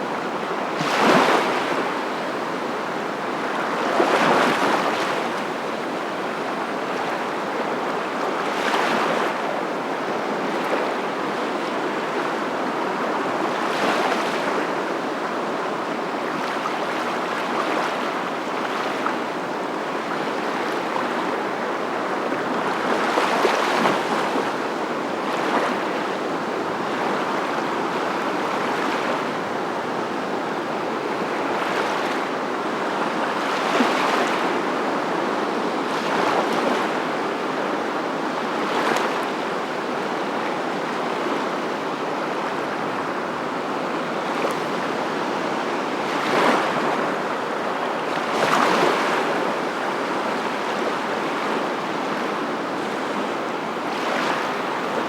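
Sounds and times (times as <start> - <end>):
waves washing on shore: 0.1 - 55.0.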